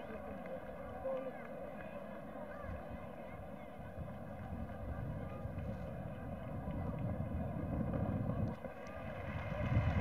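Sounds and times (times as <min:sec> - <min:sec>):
stadium crowd murmur: 0:00.0 - 0:10.0.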